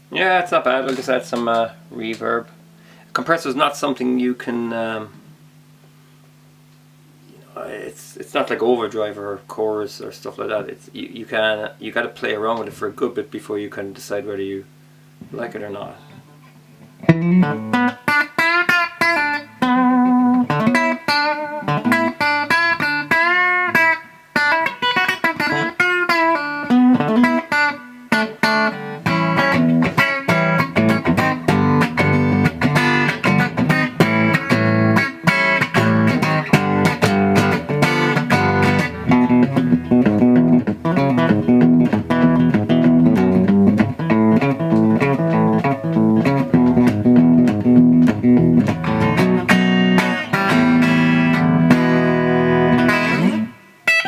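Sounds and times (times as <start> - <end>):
clean electric guitar lead lines: 0.0 - 5.7, 6.6 - 54.0
electric guitar rhythmic chords: 0.0 - 5.7, 14.7 - 54.0.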